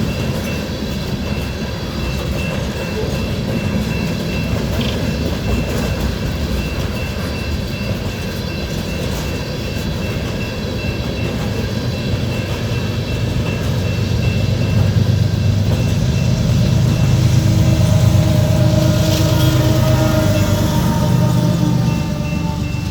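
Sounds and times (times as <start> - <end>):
freight train rumbling past: 0.0 - 22.9
railroad crossing bell ringing: 0.0 - 22.9.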